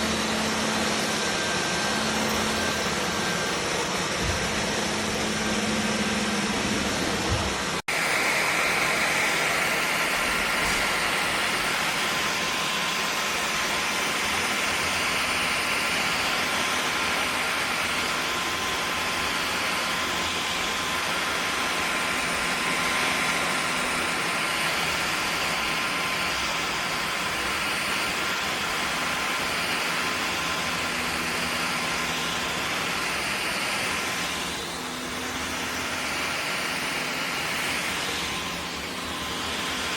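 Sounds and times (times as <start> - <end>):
cordless vacuum running: 0.0 - 39.9.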